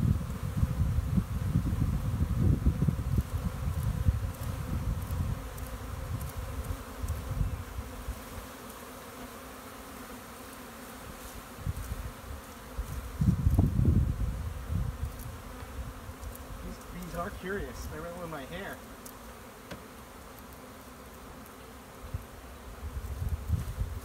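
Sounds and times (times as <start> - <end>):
honeybees humming: 0.0 - 24.0.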